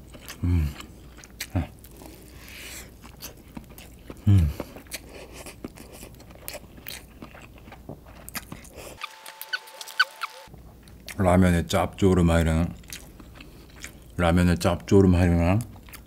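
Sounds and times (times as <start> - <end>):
open-mouthed chewing: 0.0 - 11.3, 12.6 - 14.2, 15.4 - 16.0.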